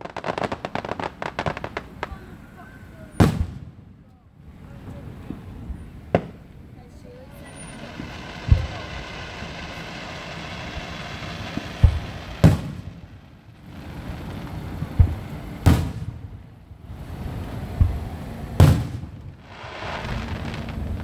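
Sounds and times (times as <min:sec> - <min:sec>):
background rumble: 0:00.0 - 0:21.0
fireworks exploding: 0:00.0 - 0:21.0.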